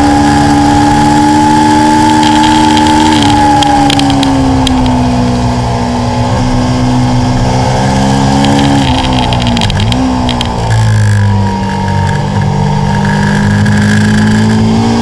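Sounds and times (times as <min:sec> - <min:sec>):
motorcycle engine at track speed: 0:00.0 - 0:15.0.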